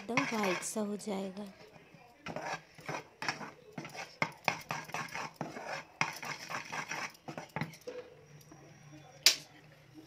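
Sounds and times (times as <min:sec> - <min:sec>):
spoon scraping metal pan: 0:00.0 - 0:08.8.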